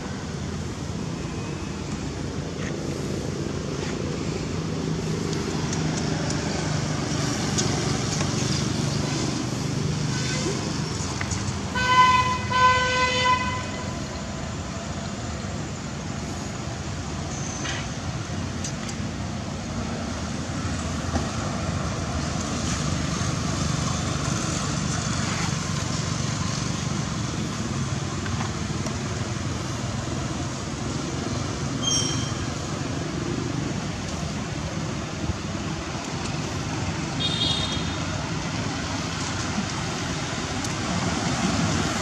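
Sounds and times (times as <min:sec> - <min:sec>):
road traffic hum: 0:00.0 - 0:42.0.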